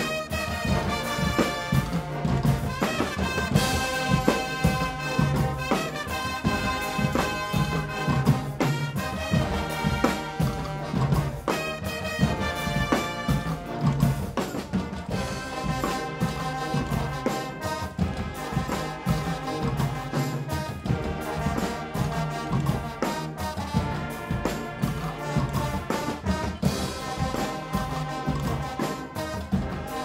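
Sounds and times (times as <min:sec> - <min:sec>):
brass section playing: 0:00.0 - 0:30.0
drums keeping a steady beat: 0:00.0 - 0:30.0.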